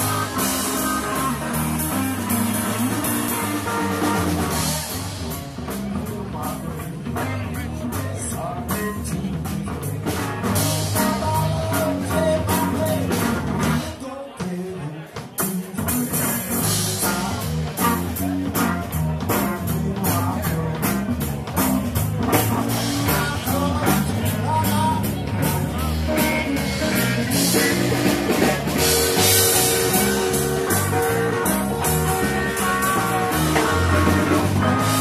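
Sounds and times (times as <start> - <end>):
electric bass: 0.0 - 14.0, 15.8 - 35.0
electric guitar: 0.0 - 14.0, 15.4 - 35.0
drum kit: 0.0 - 35.0.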